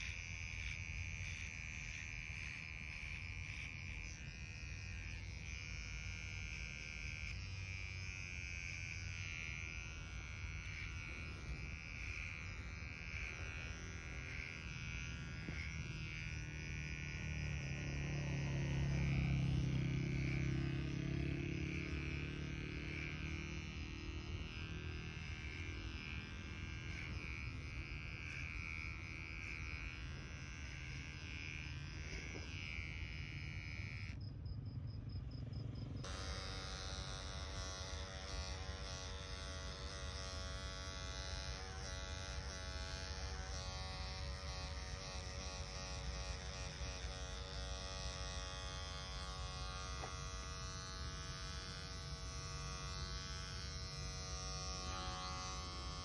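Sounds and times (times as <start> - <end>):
electric hair clipper buzzing: 0.0 - 34.4, 35.8 - 56.0.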